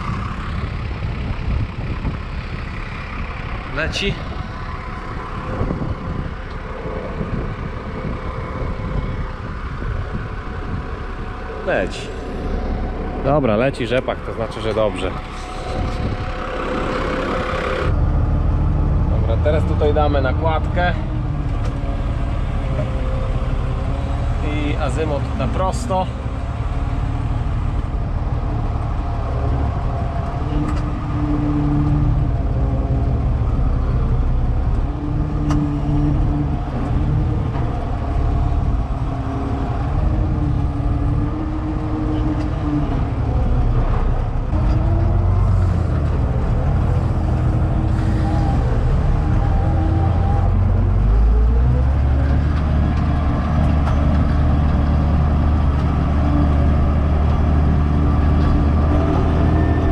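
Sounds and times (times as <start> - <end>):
tractor engine droning: 0.0 - 59.9.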